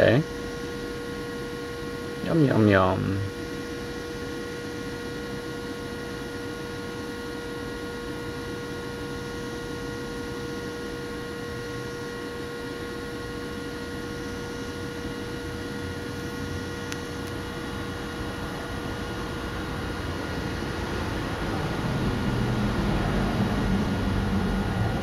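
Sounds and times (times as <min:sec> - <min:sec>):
steady hum and hiss: 0:00.0 - 0:25.0.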